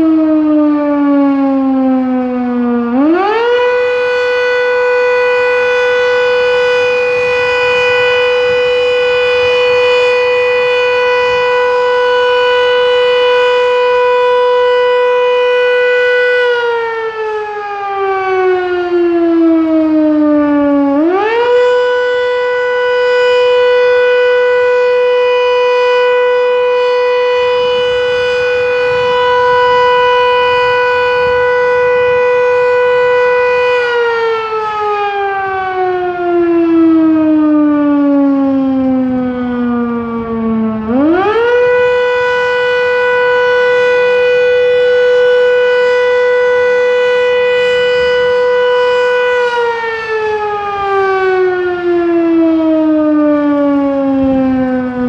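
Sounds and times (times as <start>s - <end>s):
fire station siren wailing: 0.0s - 55.0s.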